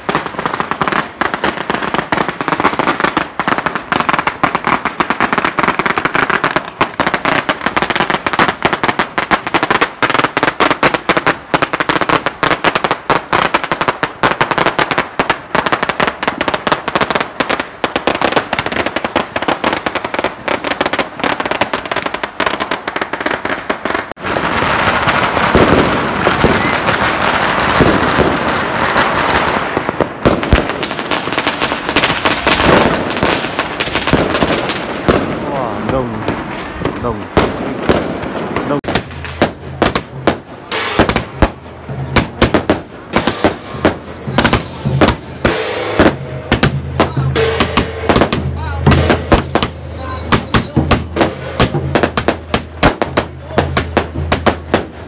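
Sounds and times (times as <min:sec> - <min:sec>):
firecrackers crackling: 0:00.0 - 0:55.0
heavy firecracker bangs: 0:00.0 - 0:55.0.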